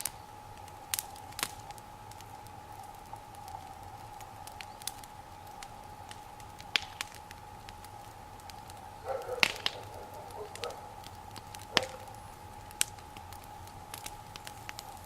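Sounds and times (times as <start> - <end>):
bonfire crackling: 0.0 - 15.0
burning wood popping: 0.0 - 15.0.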